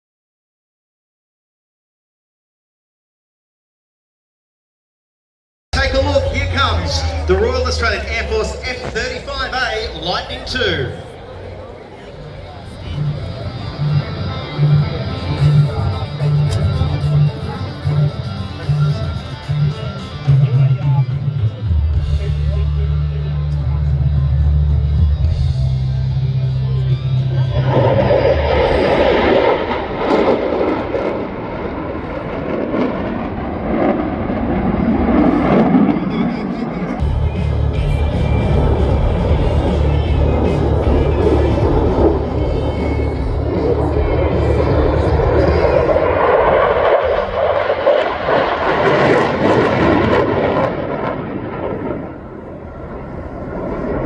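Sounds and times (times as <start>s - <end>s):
jet roaring past: 5.8s - 54.0s.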